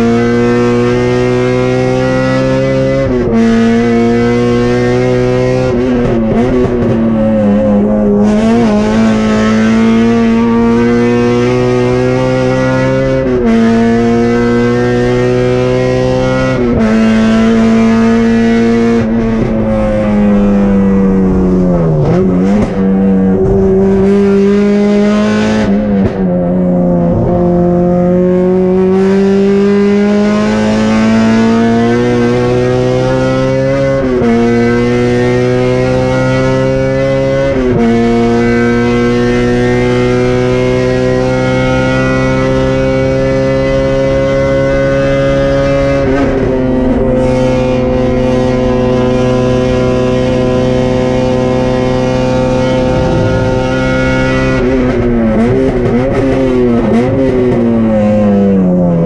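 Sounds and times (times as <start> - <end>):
race car engine at full throttle: 0.0 - 59.0.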